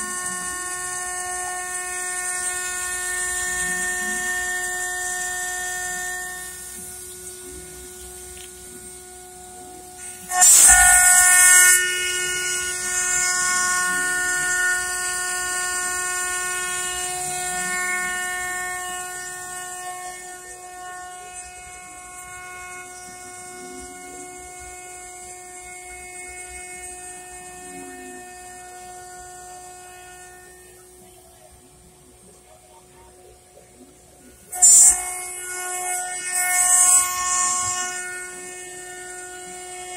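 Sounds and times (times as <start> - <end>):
metal cutting noise: 0.0 - 39.9
mill spindle high whine: 0.0 - 39.9.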